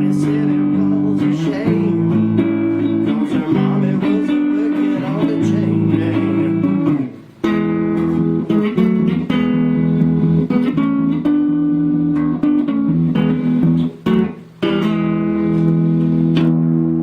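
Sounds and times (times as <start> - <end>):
electric guitar strumming chords: 0.0 - 17.0.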